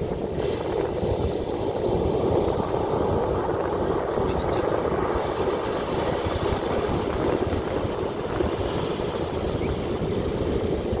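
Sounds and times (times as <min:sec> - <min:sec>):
ocean waves breaking: 0:00.0 - 0:11.0
wind on microphone: 0:00.0 - 0:11.0.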